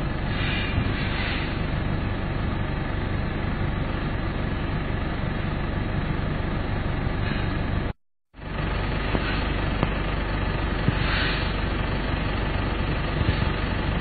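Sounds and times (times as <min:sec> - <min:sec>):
car running heard from cabin: 0:00.0 - 0:14.0.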